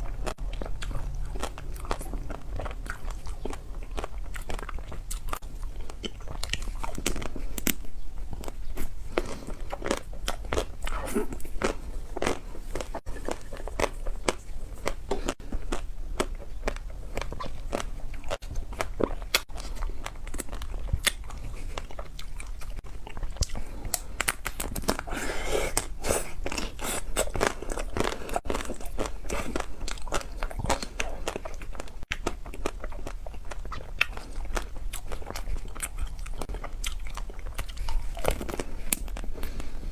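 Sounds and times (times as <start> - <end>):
chewing: 0.0 - 39.9.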